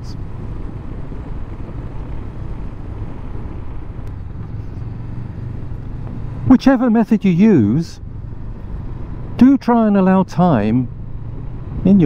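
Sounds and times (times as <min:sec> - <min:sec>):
motorcycle engine drone: 0:00.0 - 0:12.0
road noise: 0:00.0 - 0:12.0.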